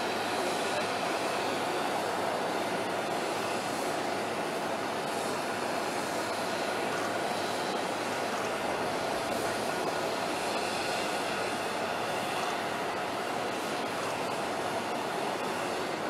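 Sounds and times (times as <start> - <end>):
jet turbine hiss and whine: 0.0 - 16.0.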